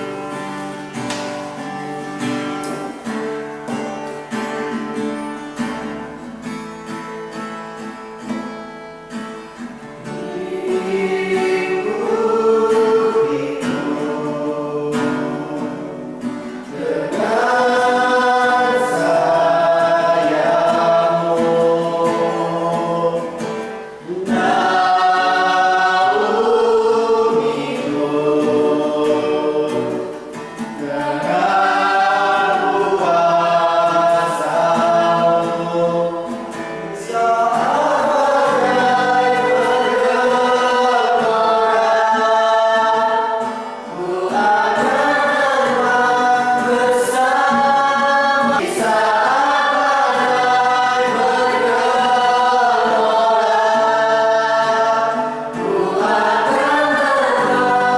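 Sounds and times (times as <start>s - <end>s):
group singing worship song: 0.0s - 6.5s, 9.6s - 57.9s.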